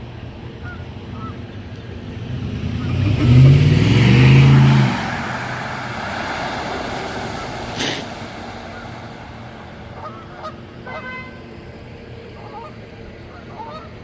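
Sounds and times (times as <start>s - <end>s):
vehicle driving past: 0.6s - 12.8s.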